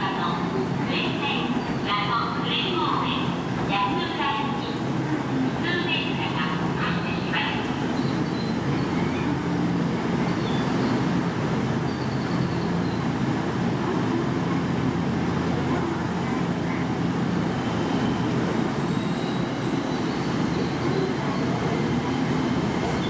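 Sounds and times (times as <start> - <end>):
electric train rumble and hum: 0.0 - 23.0.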